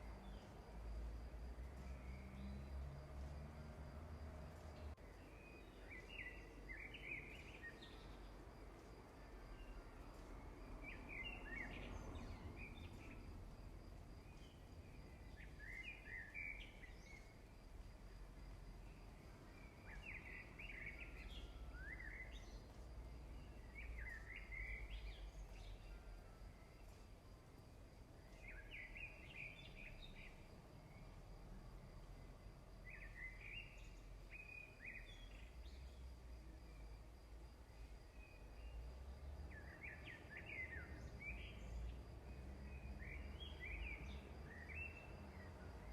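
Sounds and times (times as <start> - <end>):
songbird chirping: 0.0 - 45.9.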